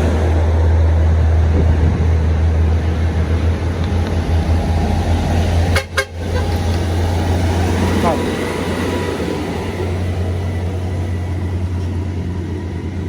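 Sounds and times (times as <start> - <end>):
heavy vehicle engine rumble: 0.0 - 13.0.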